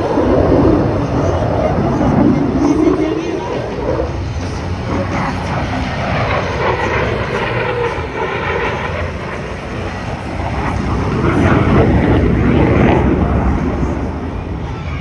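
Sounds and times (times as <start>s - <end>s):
fighter jet rumble: 0.0s - 14.8s.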